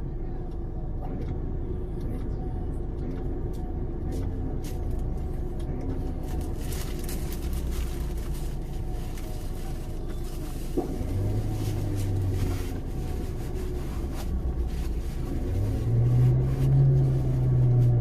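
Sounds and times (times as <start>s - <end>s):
vehicle engine running at low revs: 0.0s - 18.0s.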